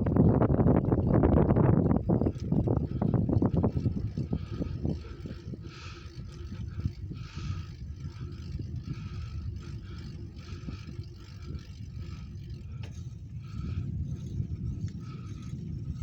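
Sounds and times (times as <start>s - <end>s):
bike tyre rumble on road: 0.0s - 16.0s
wind buffeting microphone: 0.0s - 16.0s.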